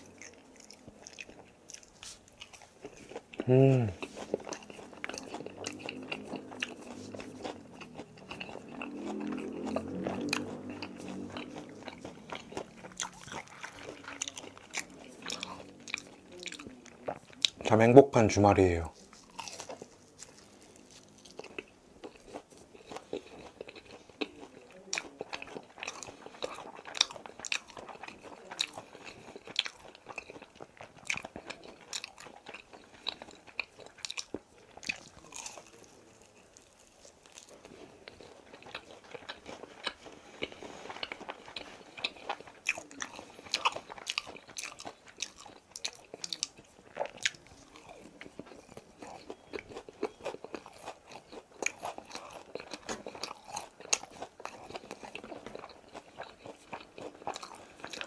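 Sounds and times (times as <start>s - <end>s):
crunching and chewing fried chicken: 0.0s - 58.0s.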